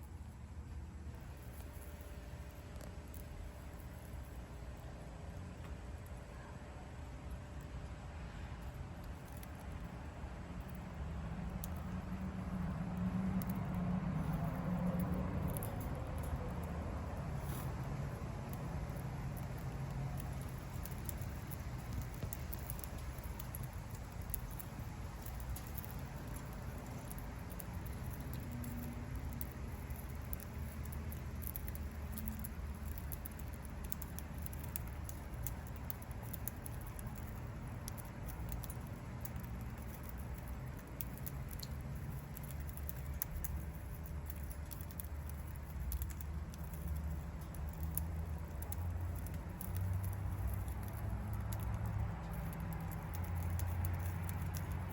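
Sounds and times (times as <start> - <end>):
low steady rumble: 0.0 - 54.9.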